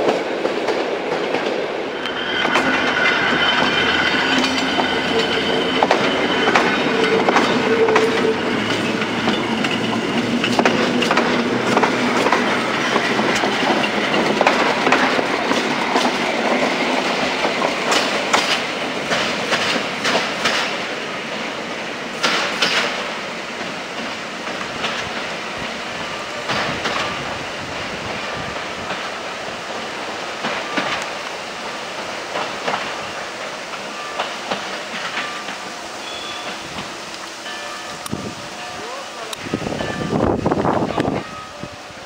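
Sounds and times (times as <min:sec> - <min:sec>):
train wheels clicking over rail joints: 0:00.0 - 0:35.8
train rumble: 0:00.0 - 0:42.0.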